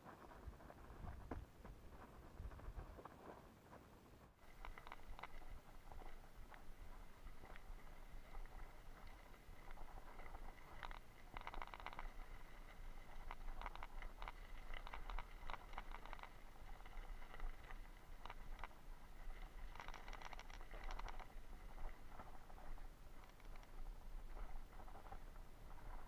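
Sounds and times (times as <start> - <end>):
bicycle rattling and clicking: 4.4 - 26.0.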